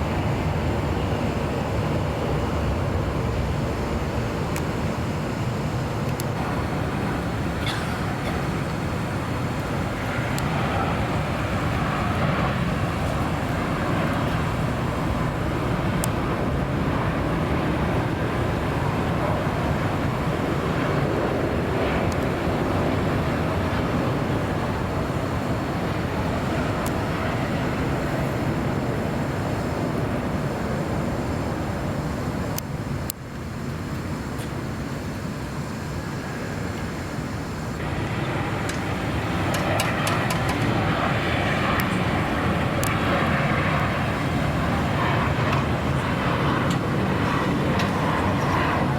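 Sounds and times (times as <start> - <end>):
jet airliner roar: 0.0 - 48.9.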